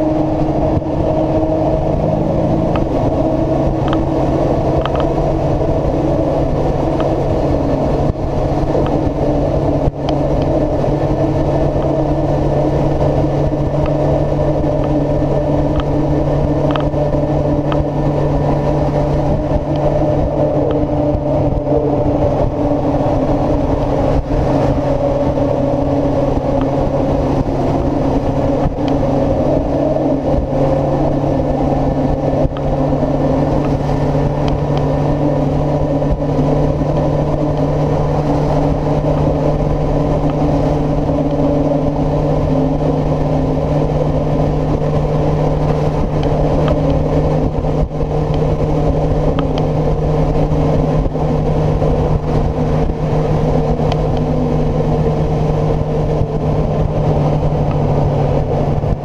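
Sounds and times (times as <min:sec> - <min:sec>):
motorcycle engine at high revs: 0:00.0 - 0:59.0
wind rushing over microphone: 0:00.0 - 0:59.0.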